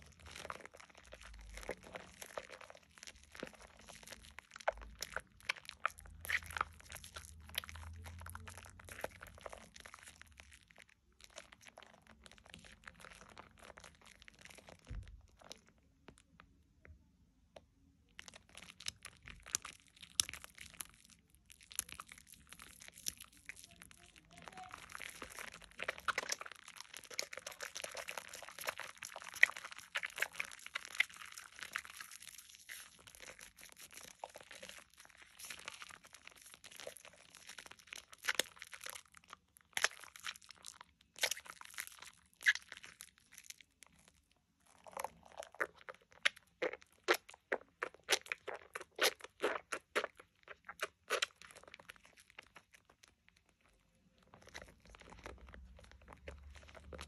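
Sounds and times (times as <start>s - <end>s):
hands squishing soap lather: 0.0s - 57.0s.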